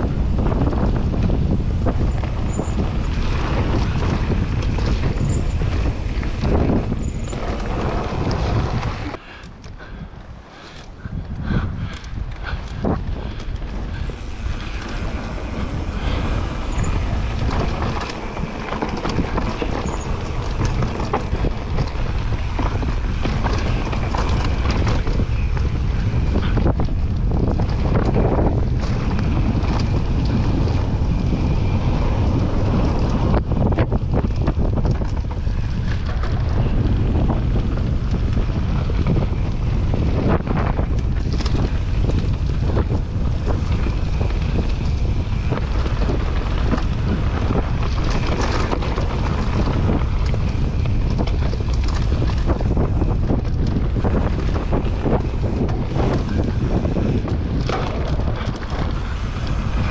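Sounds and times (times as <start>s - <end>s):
bike knocks and rattles: 0.0s - 9.2s, 10.8s - 59.9s
bike tyres rolling on dirt: 0.0s - 59.9s
wind rushing over microphone: 0.0s - 59.9s.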